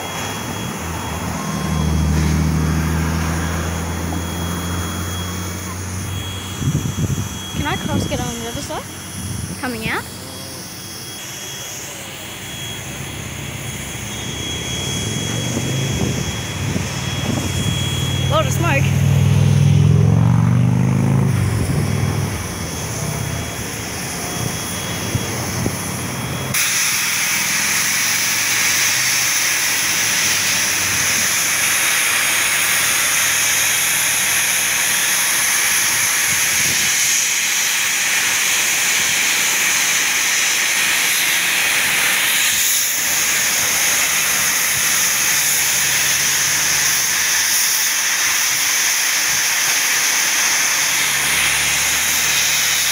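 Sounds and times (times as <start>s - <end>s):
steam hissing: 0.0s - 52.9s
steam locomotive droning: 0.0s - 52.9s.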